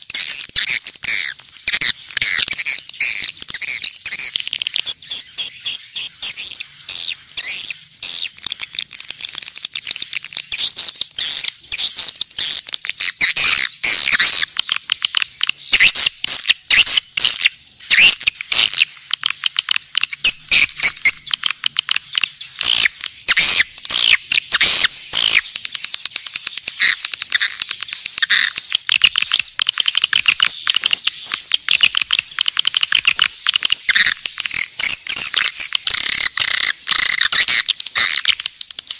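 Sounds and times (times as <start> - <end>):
swiftlets chirping: 0.0 - 38.9.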